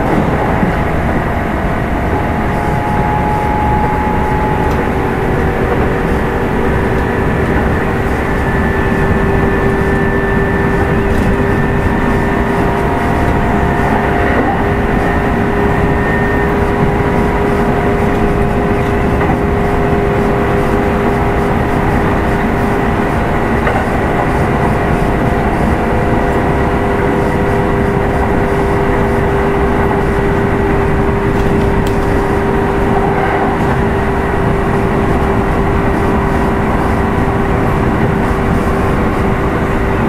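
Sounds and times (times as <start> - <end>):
electric motor whine: 0.0 - 40.0
train wheels rumbling on rail: 0.0 - 40.0.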